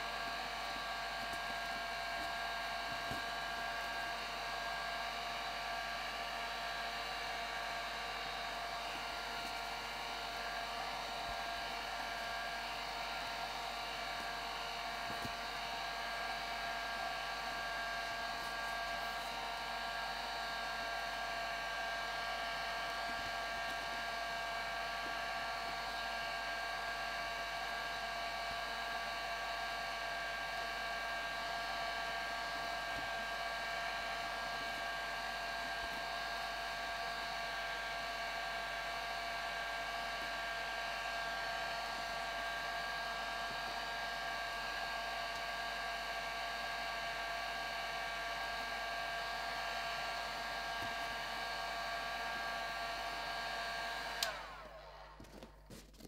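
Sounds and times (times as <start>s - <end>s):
heat gun fan whining: 0.0s - 55.6s.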